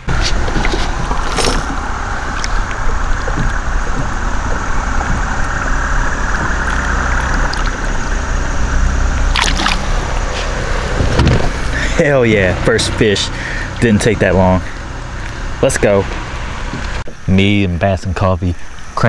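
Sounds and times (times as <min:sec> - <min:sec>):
water splashes: 0:00.0 - 0:17.1
water sloshing and gurgling: 0:00.0 - 0:17.3.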